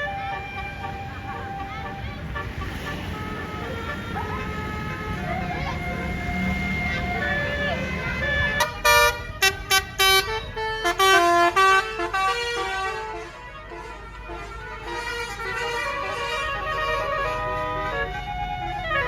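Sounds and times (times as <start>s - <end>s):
bus multi-tone air horn tune: 0.0s - 19.0s.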